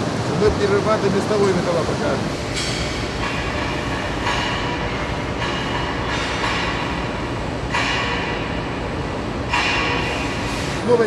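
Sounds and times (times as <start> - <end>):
machinery rumbling: 0.0 - 11.0.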